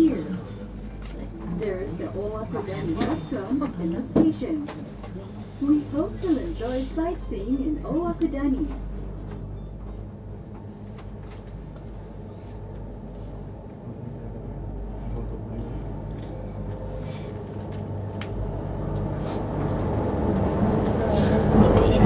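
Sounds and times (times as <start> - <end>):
gondola mechanical hum: 0.0 - 22.0.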